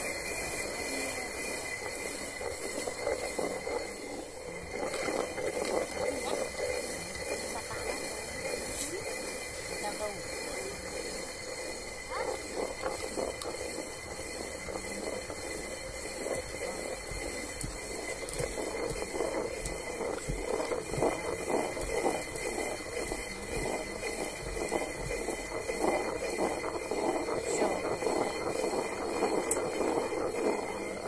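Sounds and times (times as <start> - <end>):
hand quern grinding grain: 0.0 - 31.0.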